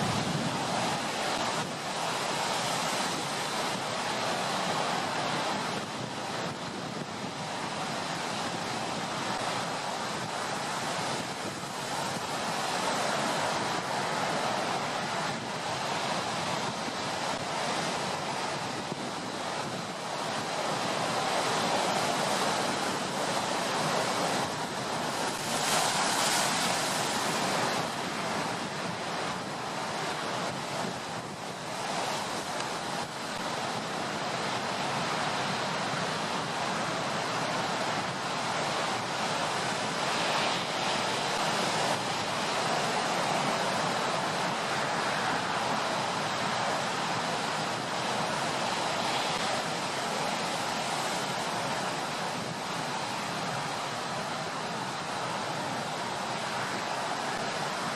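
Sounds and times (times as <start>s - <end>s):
waves breaking: 0.0s - 57.9s
wind: 0.0s - 57.9s.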